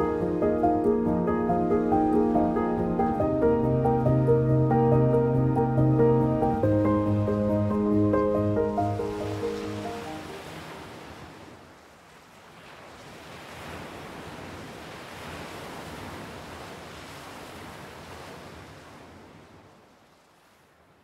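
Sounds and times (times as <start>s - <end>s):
ocean surf waves: 0.0s - 20.8s.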